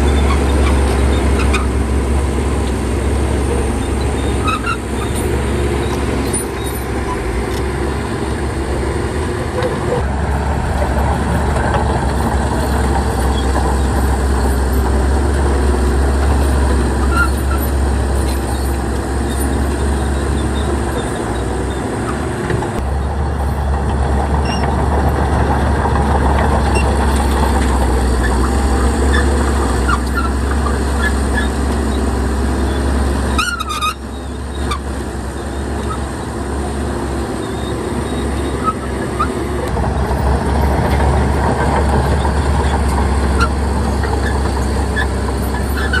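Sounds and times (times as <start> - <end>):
heavy diesel machinery rumbling: 0.0 - 46.0.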